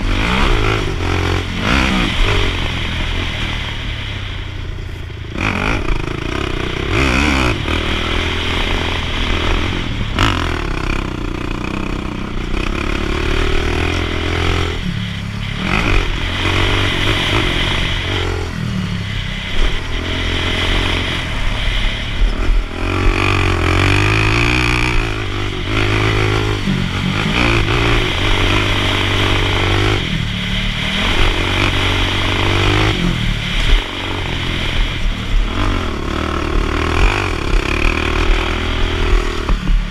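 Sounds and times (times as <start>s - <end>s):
quad engine under hard throttle: 0.0s - 39.9s.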